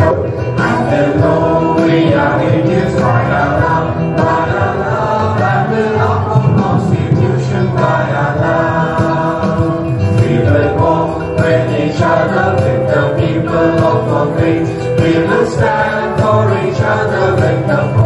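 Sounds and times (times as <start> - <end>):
group of voices singing: 0.0 - 18.0
instrumental backing: 0.0 - 18.0.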